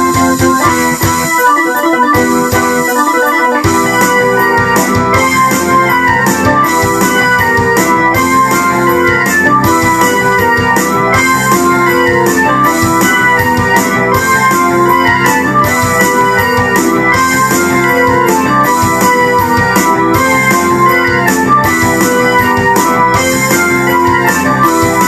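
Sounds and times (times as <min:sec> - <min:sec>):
percussive beat: 0:00.0 - 0:25.0
synthesizer electric piano rock part: 0:00.0 - 0:25.0.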